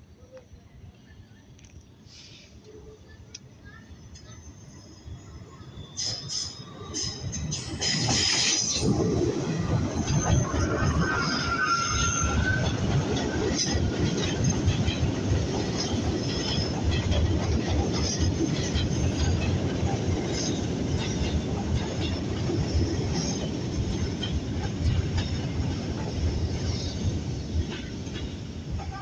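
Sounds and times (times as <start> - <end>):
train wheels rumbling on rail: 5.7 - 29.0.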